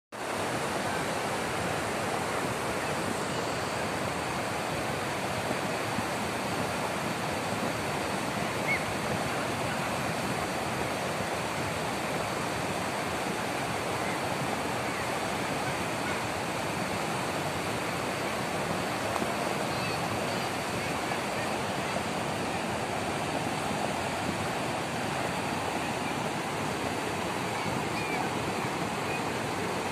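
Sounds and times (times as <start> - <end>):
flood water rushing over stones: 0.2 - 29.9.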